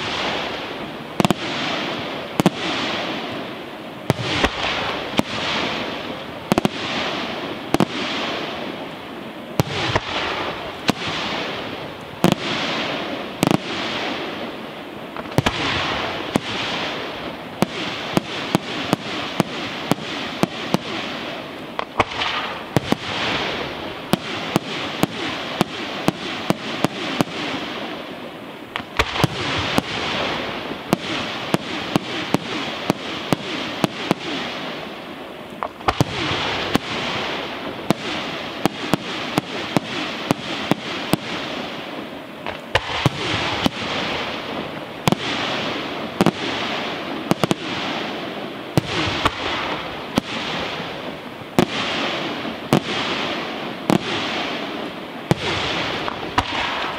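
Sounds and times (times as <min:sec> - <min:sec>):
noisy hiss: 0:00.0 - 0:56.9
firework shells bursting: 0:09.5 - 0:27.9, 0:28.7 - 0:56.9.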